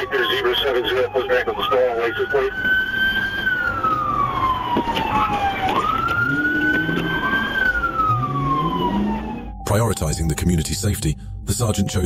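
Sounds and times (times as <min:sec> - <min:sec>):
car engine and road noise: 0:00.0 - 0:09.7
police siren wailing: 0:00.0 - 0:09.7.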